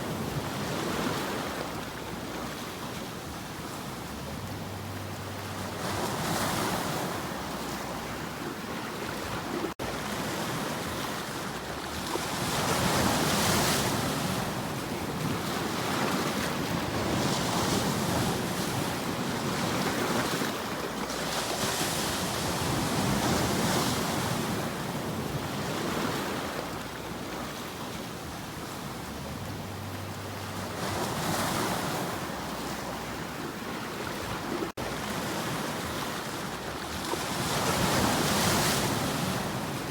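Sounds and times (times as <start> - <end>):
ocean waves breaking on shore: 0.0 - 39.9
wind: 0.0 - 39.9.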